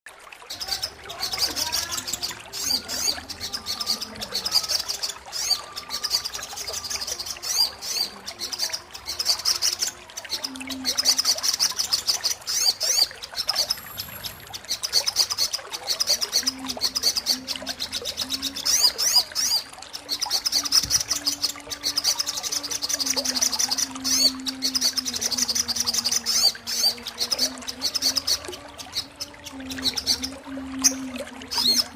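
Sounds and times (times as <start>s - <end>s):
bird chirping and twittering: 0.5s - 31.9s.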